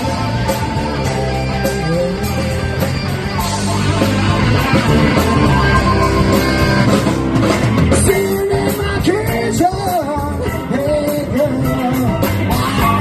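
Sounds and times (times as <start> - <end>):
bass line: 0.0 - 13.0
electric guitar: 0.0 - 13.0
steady drum beat: 0.0 - 13.0.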